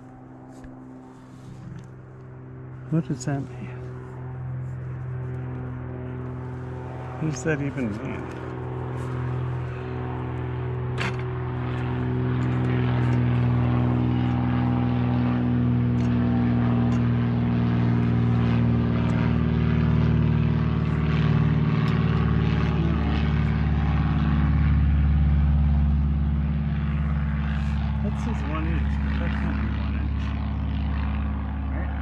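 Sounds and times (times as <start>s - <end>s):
engine droning steadily: 0.0s - 32.0s.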